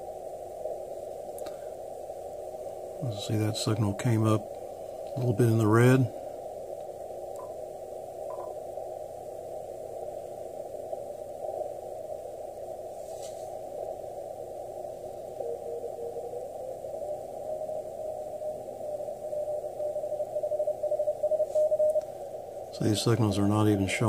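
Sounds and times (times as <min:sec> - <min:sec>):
radio band hiss: 0:00.0 - 0:24.0.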